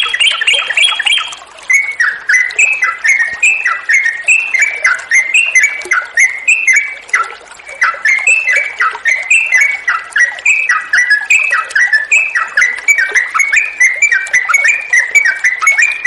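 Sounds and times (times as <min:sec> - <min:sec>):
bird singing whistled phrases: 0:00.0 - 0:16.0.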